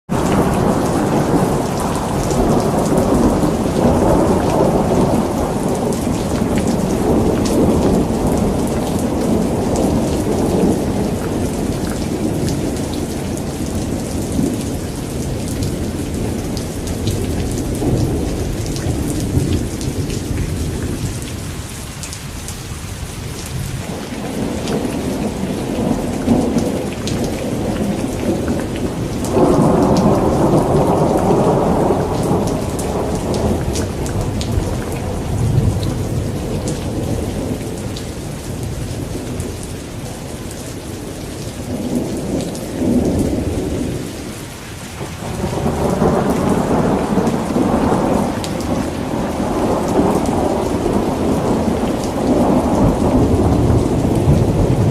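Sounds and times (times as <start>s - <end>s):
thunder rumbling: 0.1s - 21.6s, 23.2s - 44.3s, 45.0s - 54.9s
rain pattering: 0.1s - 54.9s.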